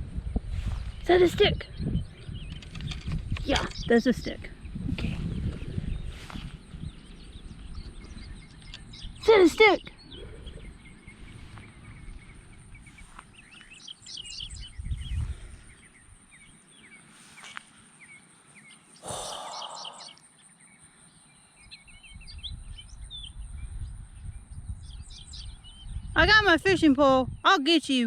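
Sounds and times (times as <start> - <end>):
wind rumbling on microphone: 0.0 - 16.9, 21.6 - 27.6
small birds chirping: 0.0 - 28.0.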